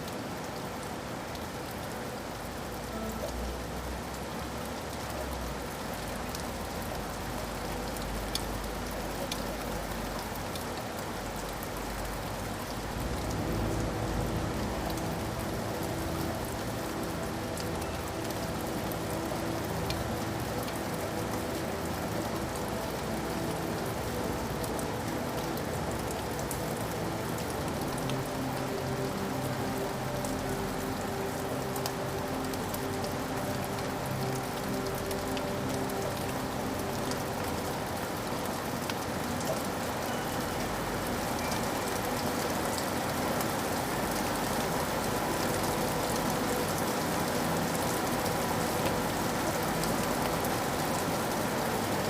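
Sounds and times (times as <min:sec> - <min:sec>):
raindrops ticking: 0:00.0 - 0:52.0
steady rain hiss: 0:00.0 - 0:52.0.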